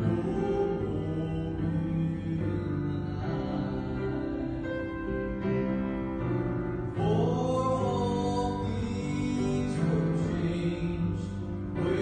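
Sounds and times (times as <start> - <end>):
man singing gospel song: 0.0 - 5.2, 6.9 - 12.0
piano accompaniment: 0.0 - 12.0.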